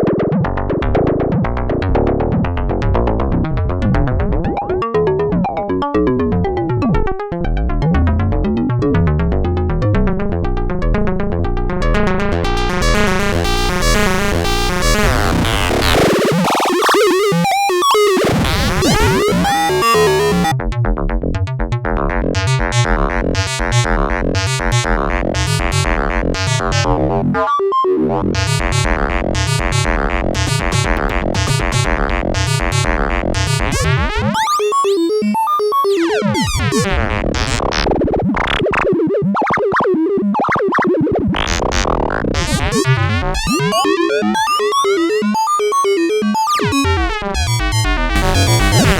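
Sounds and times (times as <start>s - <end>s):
drum synthesizer sequenced pattern: 0.1s - 16.2s, 17.0s - 48.9s.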